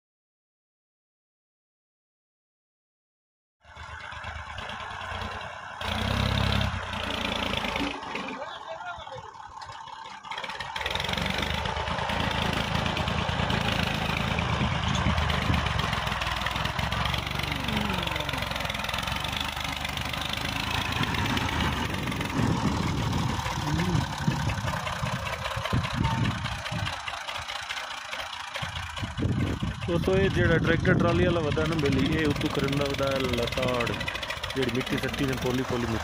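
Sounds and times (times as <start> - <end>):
heavy diesel engine running: 3.6 - 36.0.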